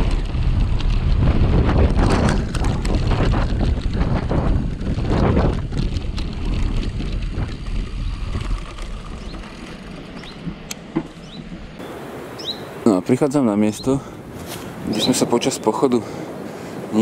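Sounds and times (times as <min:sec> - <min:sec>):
bicycle tyres on dirt road: 0:00.0 - 0:12.9, 0:14.0 - 0:17.0
wind buffeting microphone: 0:00.0 - 0:17.0.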